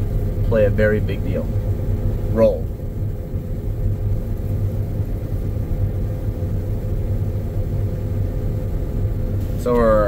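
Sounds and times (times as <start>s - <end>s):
combine harvester cab hum: 0.0s - 10.0s.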